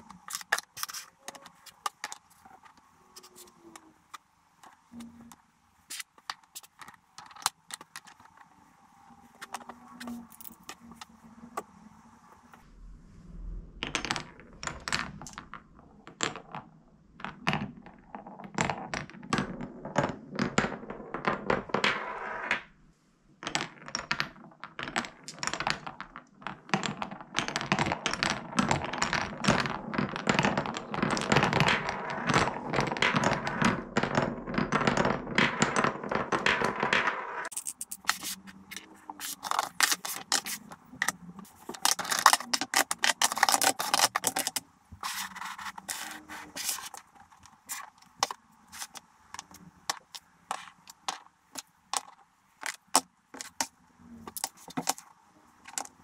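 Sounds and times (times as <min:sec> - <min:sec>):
marbles knocking wooden blocks: 0:00.0 - 0:12.6, 0:13.8 - 0:22.8, 0:23.4 - 0:56.0
wooden blocks clacking: 0:00.0 - 0:12.6, 0:13.8 - 0:22.7, 0:23.4 - 0:56.0
marbles rolling in wooden channels: 0:00.0 - 0:12.7, 0:13.7 - 0:56.0.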